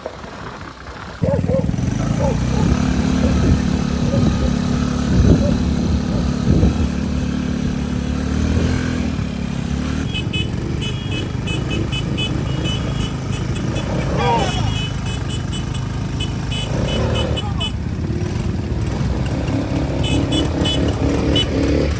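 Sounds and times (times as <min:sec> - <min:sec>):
atv engine running: 0:00.0 - 0:21.9.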